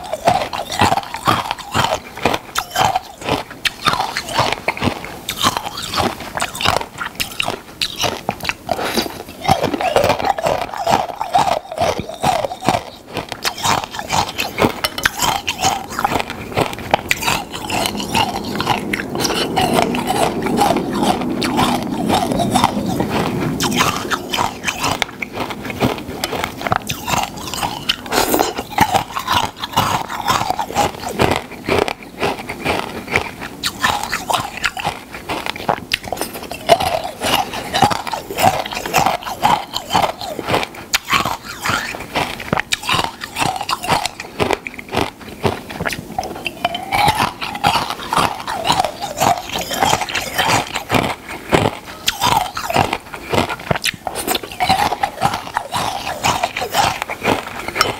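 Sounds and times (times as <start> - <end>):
crunchy chewing of food: 0.0 - 57.9.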